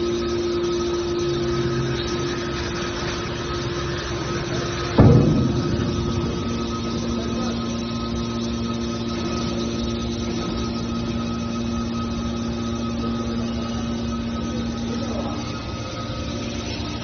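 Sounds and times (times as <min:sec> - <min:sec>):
hydraulic baler pump hum: 0:00.0 - 0:17.0
mechanical noise: 0:00.0 - 0:17.0.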